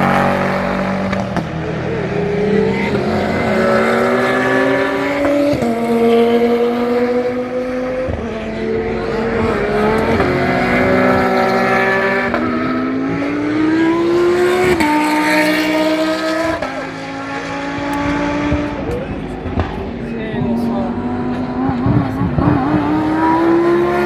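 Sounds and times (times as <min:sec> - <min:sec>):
race car engines accelerating: 0:00.0 - 0:24.0.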